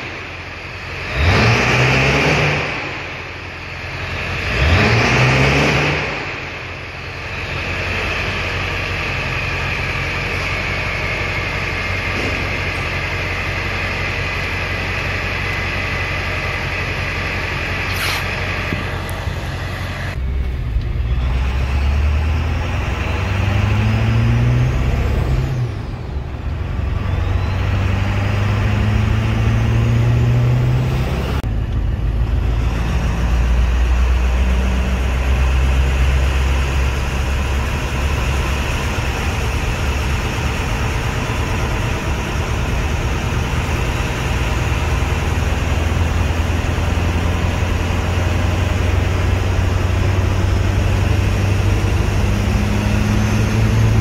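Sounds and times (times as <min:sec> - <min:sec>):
diesel engine while driving: 0:00.0 - 0:54.0.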